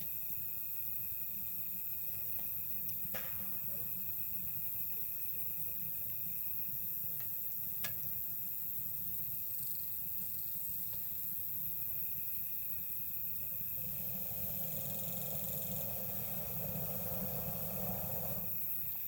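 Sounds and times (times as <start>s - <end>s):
insect trill: 0.0s - 19.0s
insects chirping: 0.0s - 19.0s.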